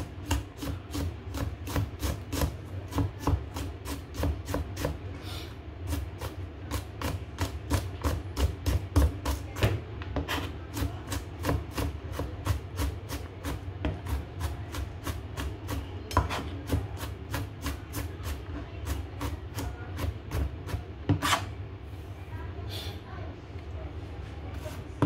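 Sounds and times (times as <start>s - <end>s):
knife chopping on plastic board: 0.2s - 5.0s, 5.9s - 21.5s.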